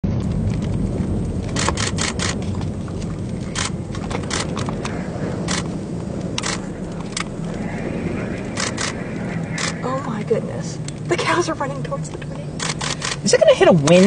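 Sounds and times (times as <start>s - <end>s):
storm wind rumble: 0.0s - 14.0s
vehicle rumble: 0.0s - 14.0s
short sharp crackles: 0.2s - 11.4s.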